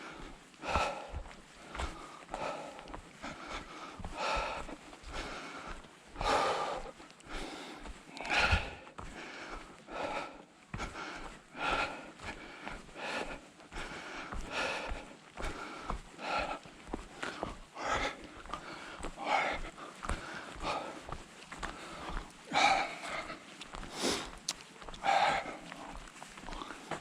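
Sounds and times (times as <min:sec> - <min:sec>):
person breathing heavily: 0:00.0 - 0:27.0.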